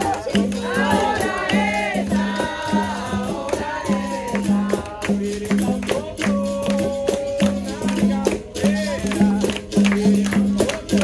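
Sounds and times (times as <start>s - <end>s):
pandeiro jingling strikes: 0.0s - 11.0s
voices singing: 0.0s - 11.0s.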